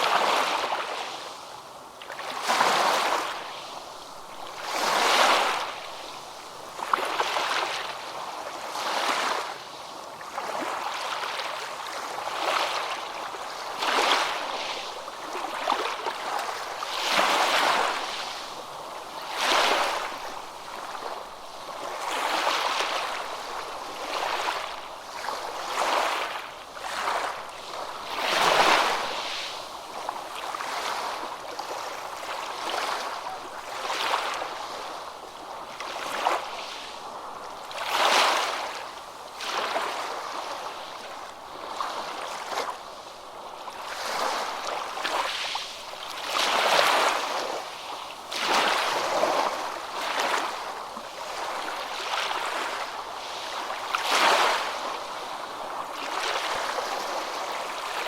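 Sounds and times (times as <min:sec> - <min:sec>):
small waves washing in: 0:00.0 - 0:58.0.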